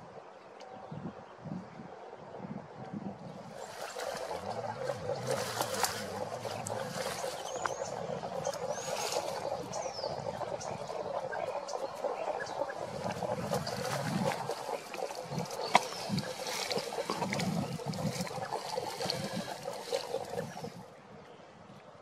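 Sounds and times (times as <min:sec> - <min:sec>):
toads calling underwater: 0:02.4 - 0:21.0.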